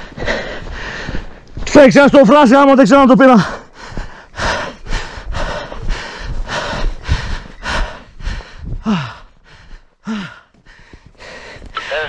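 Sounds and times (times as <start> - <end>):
man breathing hard: 0.0 - 1.4, 3.4 - 12.0.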